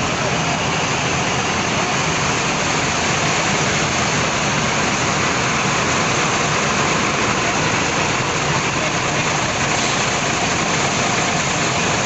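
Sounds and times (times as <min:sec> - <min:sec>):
traffic rushing past: 0:00.0 - 0:12.0.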